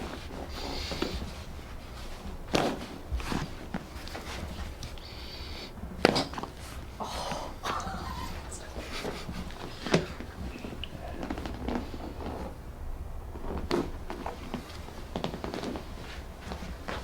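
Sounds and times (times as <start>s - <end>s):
low steady hum: 0.0s - 17.0s
rustling on treatment table: 0.0s - 17.0s.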